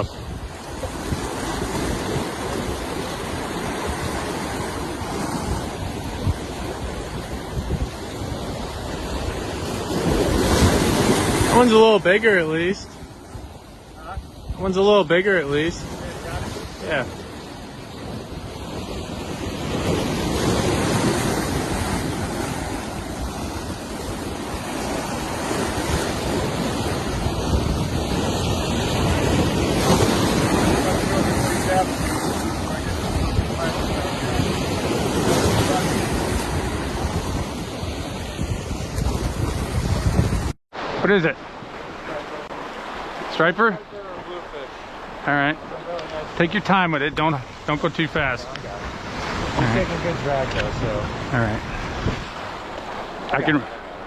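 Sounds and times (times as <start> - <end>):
wind buffeting microphone: 0.0 - 40.6, 44.0 - 54.0
ocean surf washing: 0.0 - 54.0.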